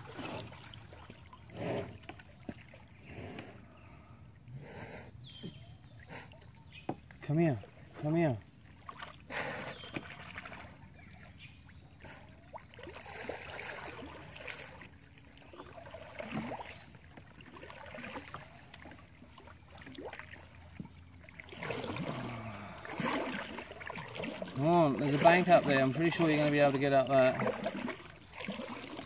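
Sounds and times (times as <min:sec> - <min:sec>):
small drips and splashes: 0:00.0 - 0:03.0, 0:06.3 - 0:29.0
water trickling around a kayak: 0:00.0 - 0:29.0.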